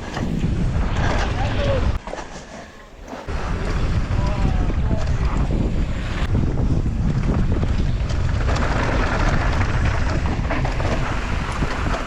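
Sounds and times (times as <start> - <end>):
wind buffeting microphone: 0.0 - 2.0, 3.2 - 12.0
tyres on rough trail: 0.0 - 12.0.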